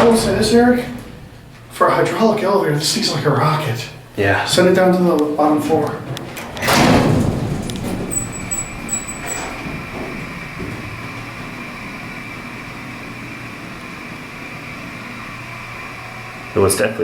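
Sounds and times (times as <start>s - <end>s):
elevator hum and whine: 0.0s - 17.0s.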